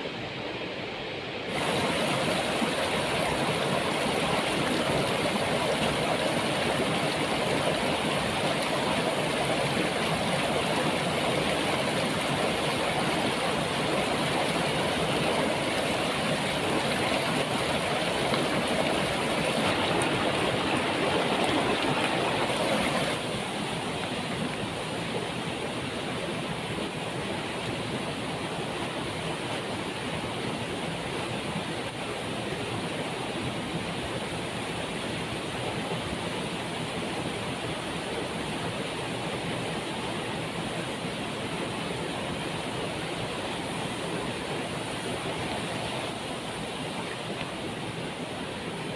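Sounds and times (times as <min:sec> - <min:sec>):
waterfall rushing water: 0:00.1 - 0:48.9.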